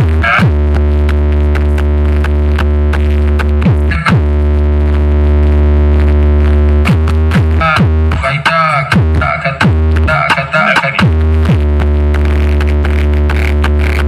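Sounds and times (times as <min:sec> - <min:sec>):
electronic music with heavy bass: 0:00.0 - 0:14.0.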